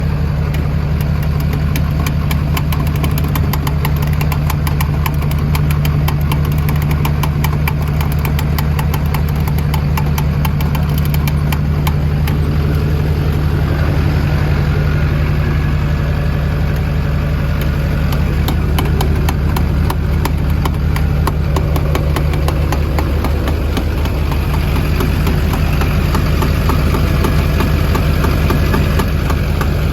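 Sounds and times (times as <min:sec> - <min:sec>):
vehicle drone: 0:00.0 - 0:29.9
fast even ticking: 0:01.2 - 0:13.8, 0:17.6 - 0:29.9.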